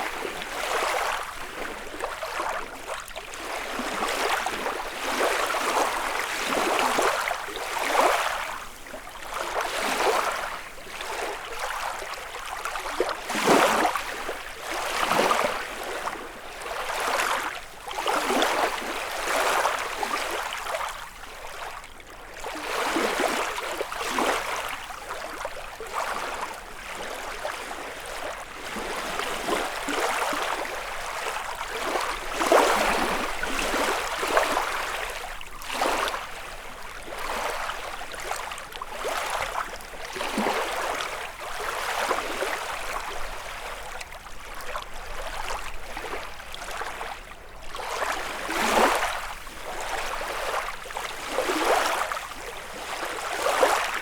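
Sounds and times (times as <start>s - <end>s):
lake waves lapping on shore: 0.0s - 54.0s.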